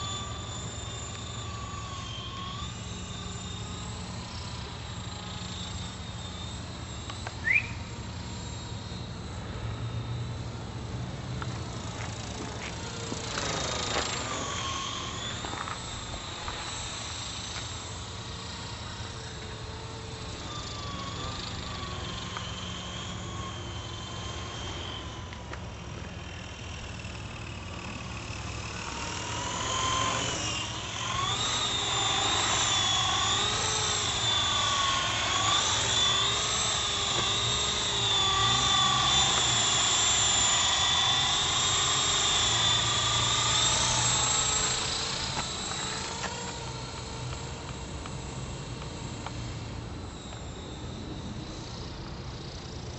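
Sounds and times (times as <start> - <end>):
rc helicopter rotor whine: 0.0 - 52.9.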